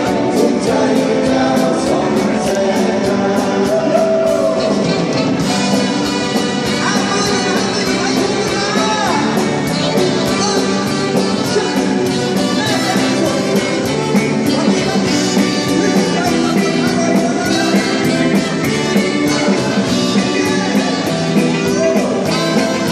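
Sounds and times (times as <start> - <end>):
drum kit beat: 0.0 - 22.9
electric guitars: 0.0 - 22.9.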